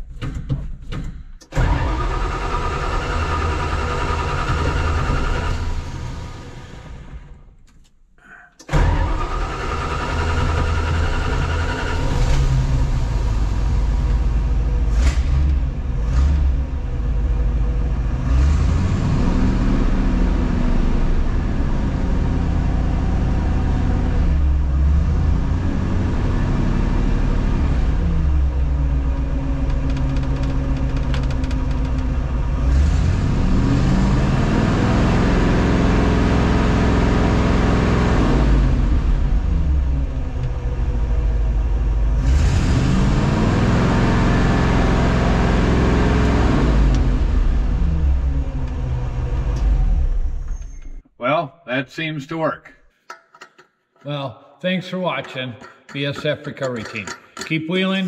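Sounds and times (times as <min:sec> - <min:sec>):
snow vehicle engine revving: 0:01.6 - 0:07.2, 0:08.7 - 0:50.3.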